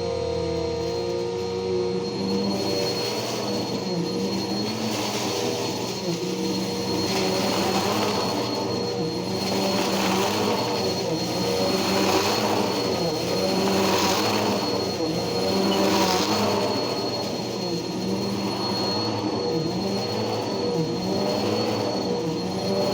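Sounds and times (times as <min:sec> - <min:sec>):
vacuum cleaner motor drone: 0:00.0 - 0:22.9.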